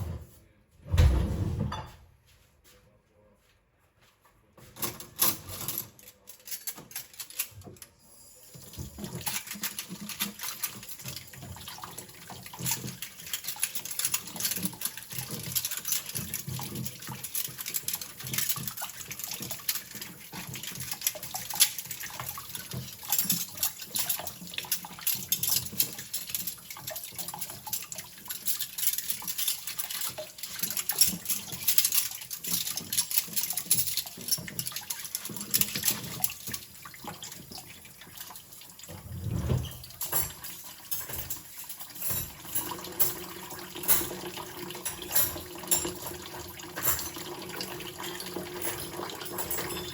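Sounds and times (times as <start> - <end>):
cutlery clinking in sink: 4.6 - 49.9
tap running water: 8.5 - 49.9.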